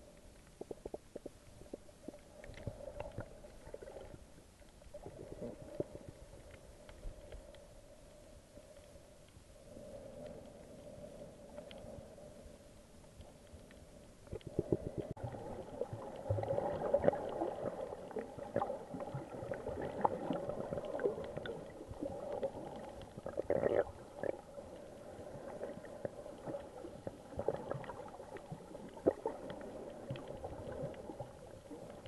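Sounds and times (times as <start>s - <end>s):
underwater gurgling and bubbling: 0.0s - 7.4s, 13.4s - 32.0s
clicks and crackles: 0.0s - 9.5s, 13.0s - 32.0s.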